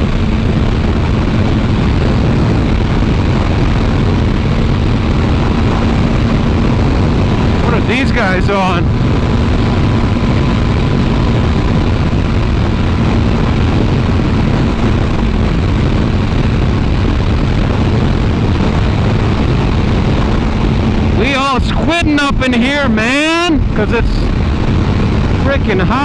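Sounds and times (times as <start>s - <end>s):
motorcycle engine drone: 0.0s - 26.0s
wind rushing on microphone: 0.0s - 26.0s.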